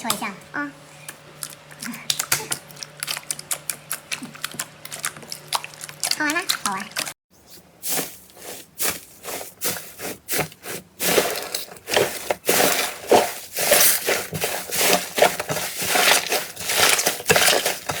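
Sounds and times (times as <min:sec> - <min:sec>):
crunchy slime crackling: 0:01.4 - 0:07.2, 0:07.9 - 0:18.0.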